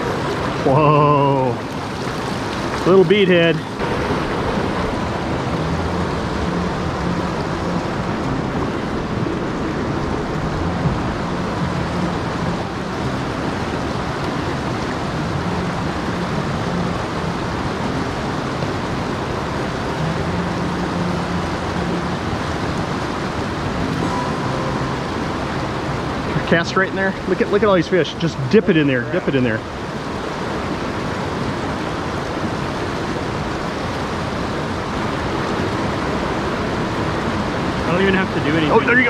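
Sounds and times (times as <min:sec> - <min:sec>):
river water rushing over boulders: 0:00.0 - 0:39.0.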